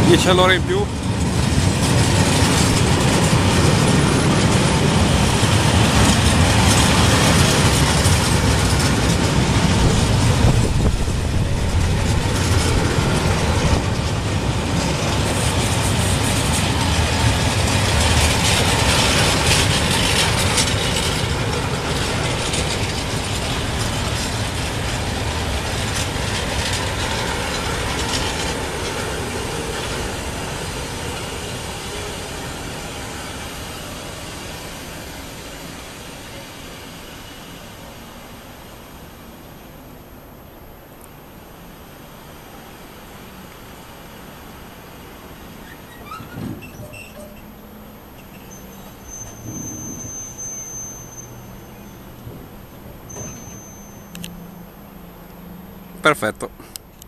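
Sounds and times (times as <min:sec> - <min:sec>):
wheels clacking over rail joints: 0:00.0 - 0:38.8, 0:43.3 - 0:56.0
freight train rumbling past: 0:00.0 - 0:57.0.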